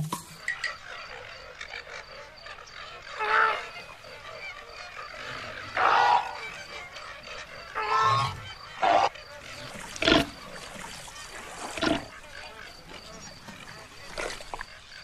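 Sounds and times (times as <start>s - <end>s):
flamingos honking: 0.4s - 15.0s.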